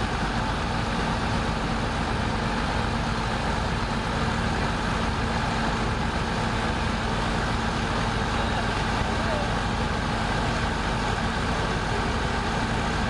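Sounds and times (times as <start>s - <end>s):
diesel engine running steadily: 0.0s - 13.0s.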